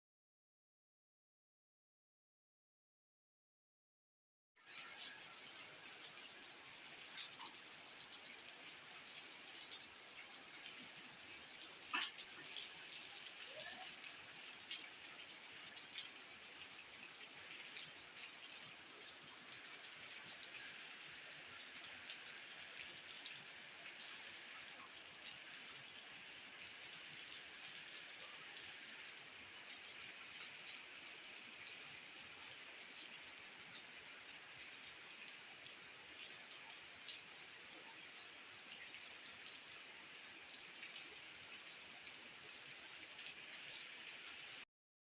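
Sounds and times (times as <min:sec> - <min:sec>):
rain falling: 0:04.7 - 0:44.6.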